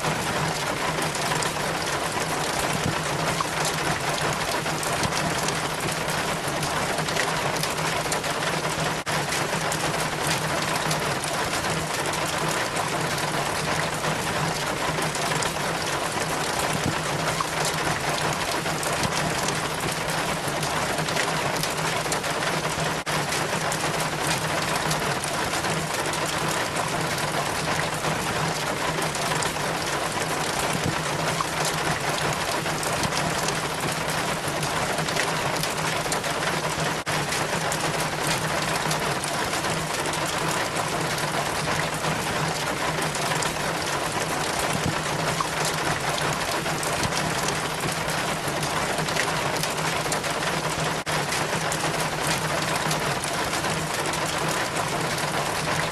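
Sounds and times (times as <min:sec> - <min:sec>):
steady rain: 0:00.0 - 0:55.9
water trickling down rain chain: 0:00.0 - 0:55.9.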